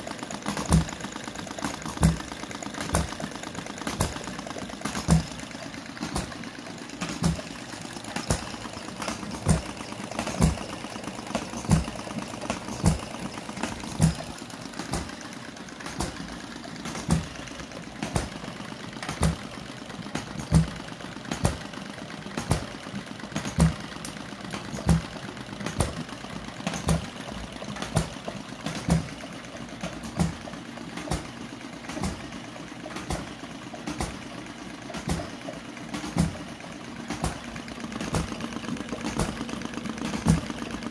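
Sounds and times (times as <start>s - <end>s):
small model engine running: 0.0s - 31.2s, 31.9s - 40.9s.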